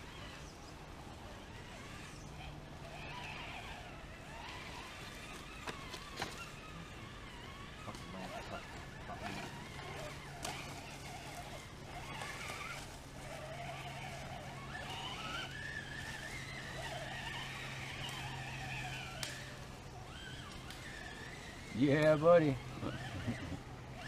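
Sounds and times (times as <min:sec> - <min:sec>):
electric motor whining: 0:00.0 - 0:24.0
steady low hum: 0:00.0 - 0:24.0.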